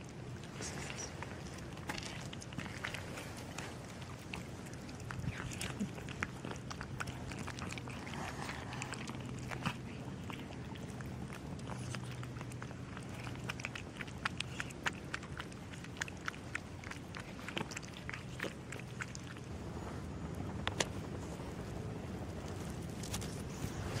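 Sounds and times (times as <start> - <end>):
cats crunching dry kibble: 0.0 - 24.0
steady low hum: 0.0 - 24.0.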